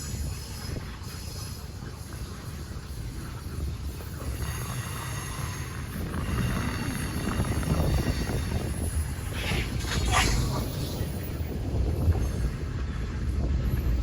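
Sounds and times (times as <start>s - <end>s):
freight train rumbling by: 0.0s - 14.0s.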